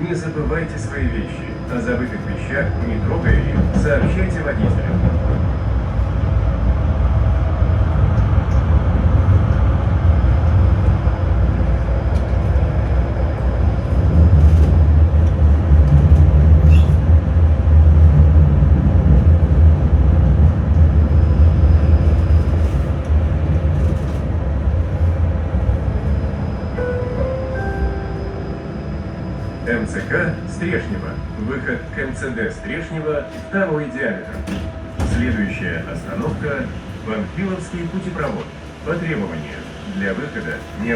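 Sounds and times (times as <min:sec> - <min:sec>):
tram wheels rumbling on rails: 0:00.0 - 0:40.9.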